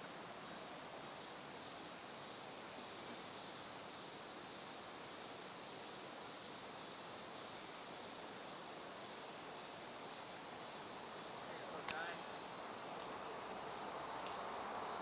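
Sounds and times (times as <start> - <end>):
faint outdoor hiss: 0.0 - 15.0
insect chorus buzzing: 0.0 - 15.0.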